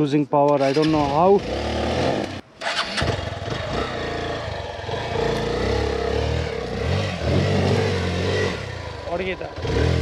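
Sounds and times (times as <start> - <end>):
motorcycle engine revving unevenly: 0.9 - 10.0.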